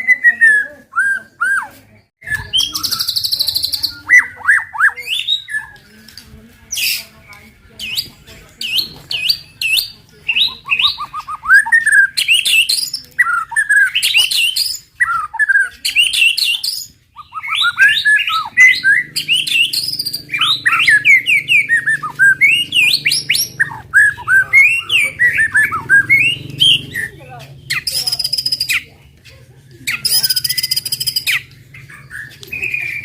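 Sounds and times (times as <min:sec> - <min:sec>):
bird singing whistled notes: 0:00.0 - 0:29.0, 0:29.8 - 0:33.0.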